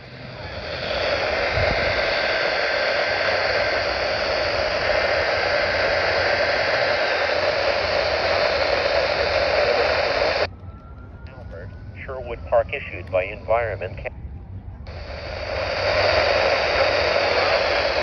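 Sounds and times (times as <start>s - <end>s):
radio static hiss: 0.0s - 10.5s, 11.5s - 14.2s, 14.8s - 18.0s
faint steady tones: 0.0s - 18.0s.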